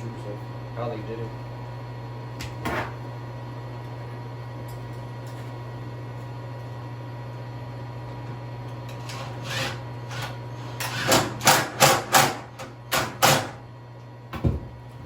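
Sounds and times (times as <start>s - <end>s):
space heater humming: 0.0s - 15.0s.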